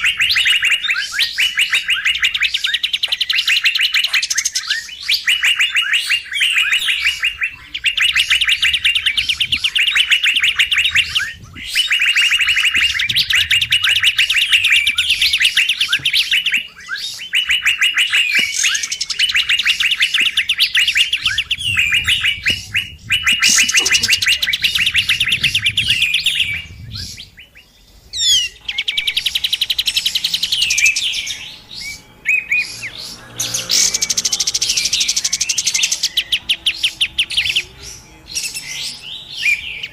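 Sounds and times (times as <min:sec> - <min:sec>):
bird chattering trills: 0:00.0 - 0:39.9.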